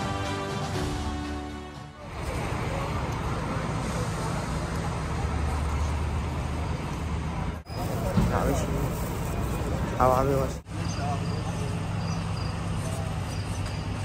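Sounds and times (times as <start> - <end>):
passing vehicles engine rumble: 0.0 - 14.0.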